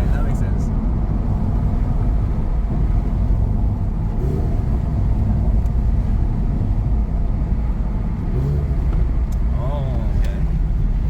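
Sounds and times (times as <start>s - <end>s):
car cabin engine and road rumble: 0.0s - 11.0s.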